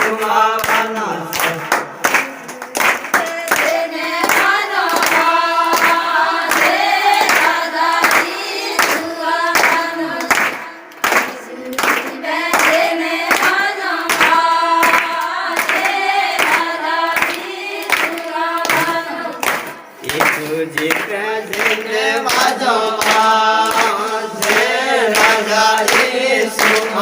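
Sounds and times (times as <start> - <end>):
group singing a devotional song: 0.0 - 27.0
hands clapping: 0.0 - 27.0.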